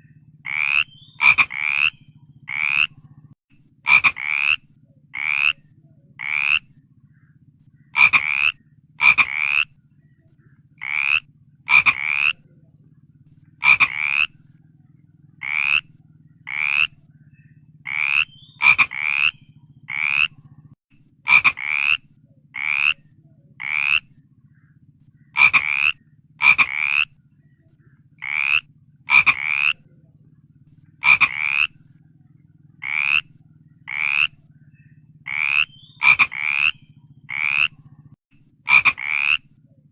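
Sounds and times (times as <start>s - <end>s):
frogs croaking: 0.0s - 39.9s
steady low hum: 0.0s - 39.9s.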